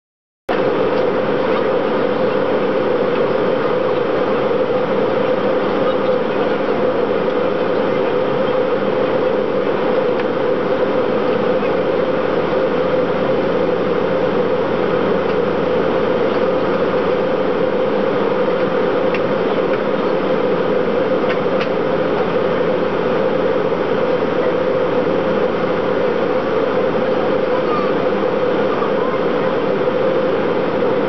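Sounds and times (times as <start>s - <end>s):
airliner cabin drone: 0.5s - 31.0s.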